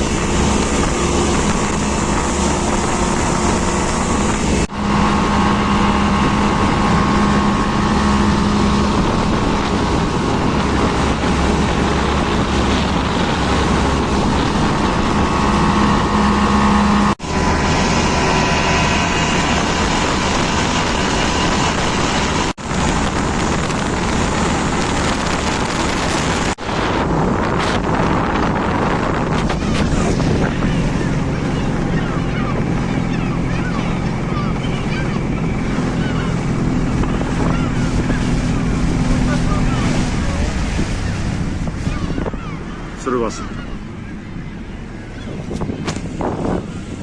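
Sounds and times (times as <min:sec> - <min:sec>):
motorboat engine humming: 0:00.0 - 0:47.0
rushing wind and water: 0:00.0 - 0:47.0.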